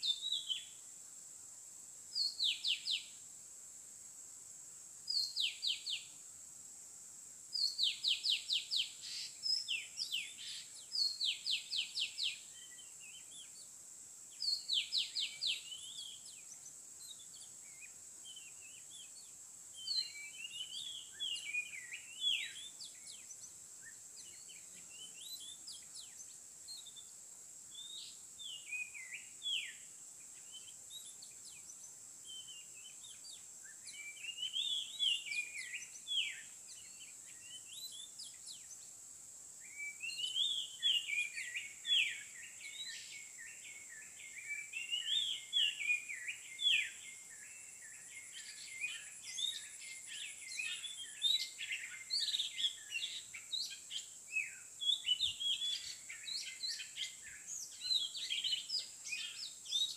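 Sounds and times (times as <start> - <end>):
bird whistling song: 0.0 - 0.8, 2.2 - 3.1, 5.1 - 6.1, 7.6 - 13.6, 14.4 - 27.1, 27.7 - 38.8, 39.6 - 59.9.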